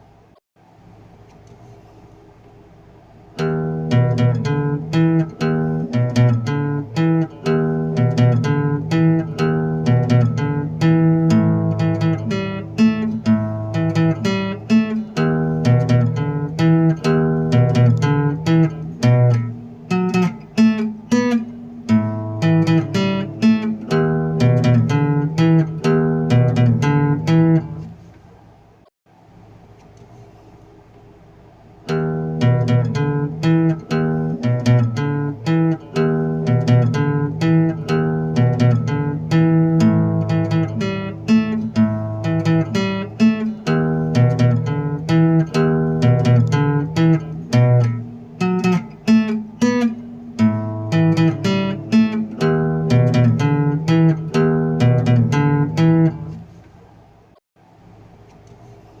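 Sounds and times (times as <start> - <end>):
acoustic guitar music: 3.3 - 28.2, 31.8 - 56.6.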